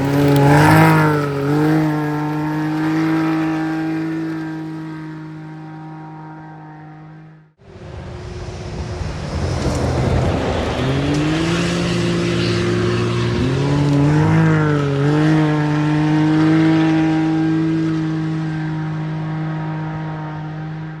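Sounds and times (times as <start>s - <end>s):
rally car engine pulling hard: 0.0s - 21.0s.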